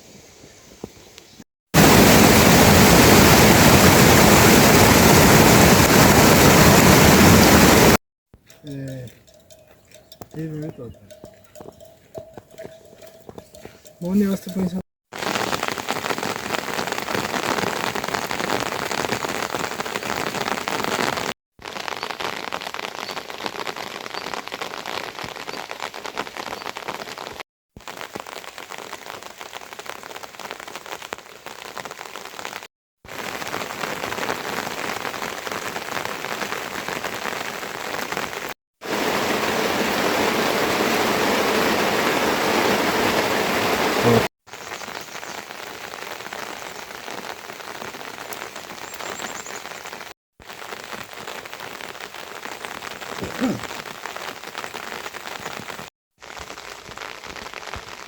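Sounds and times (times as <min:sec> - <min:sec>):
rain falling: 0:01.8 - 0:08.0, 0:12.6 - 0:58.0.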